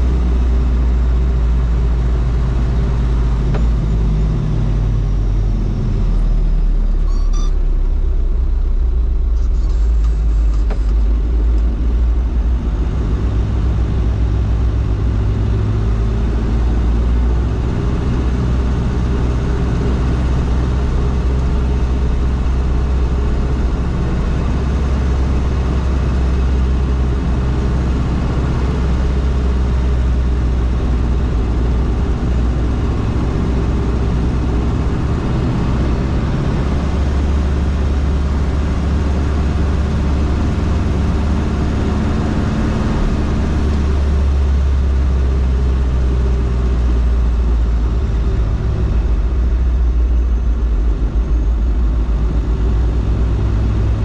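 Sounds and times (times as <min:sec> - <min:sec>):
diesel engine droning: 0:00.0 - 0:54.0
road noise: 0:00.0 - 0:54.0.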